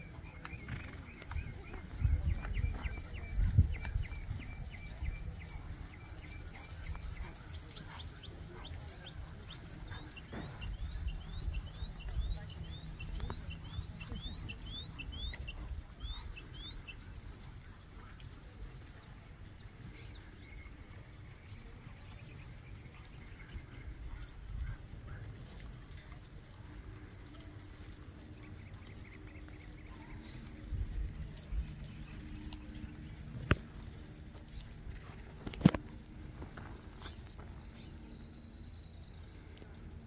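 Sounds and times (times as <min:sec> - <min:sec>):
low outdoor rumble: 0:00.0 - 0:40.0
songbird chirping: 0:00.0 - 0:40.0.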